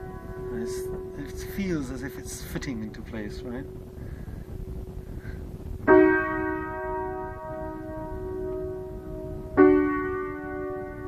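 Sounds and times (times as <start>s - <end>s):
piano chords ringing: 0.0s - 5.0s, 5.8s - 11.0s.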